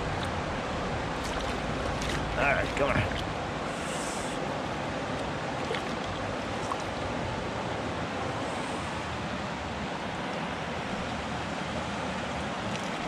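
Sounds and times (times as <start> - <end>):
creek water rushing over riffles: 0.0 - 13.0.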